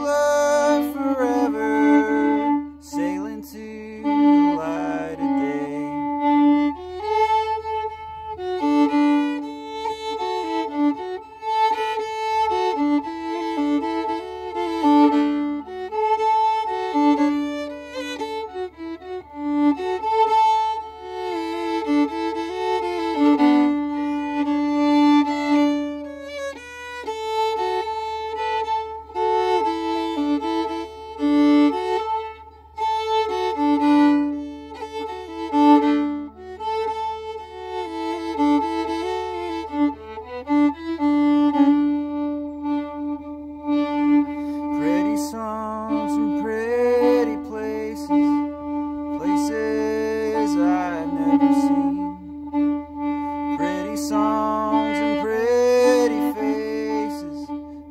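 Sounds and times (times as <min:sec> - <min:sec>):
violin melody: 0:00.0 - 0:57.9.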